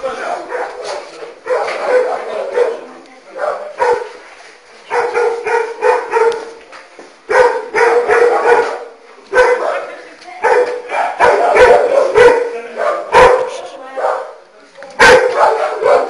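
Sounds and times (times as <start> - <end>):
dog barking: 0.2 - 4.2, 4.9 - 6.6, 7.3 - 14.4, 15.0 - 16.0.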